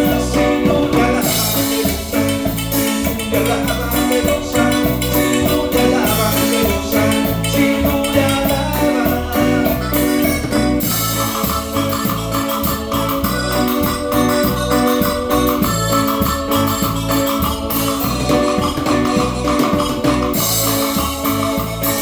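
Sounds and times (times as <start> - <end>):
bass line: 0.0 - 22.0
melody line: 0.0 - 22.0
percussion: 0.0 - 22.0.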